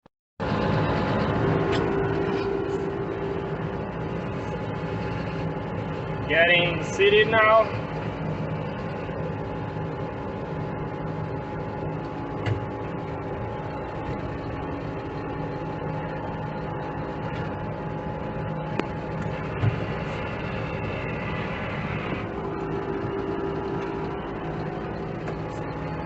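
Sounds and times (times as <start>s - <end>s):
truck engine cruising: 0.4s - 26.0s.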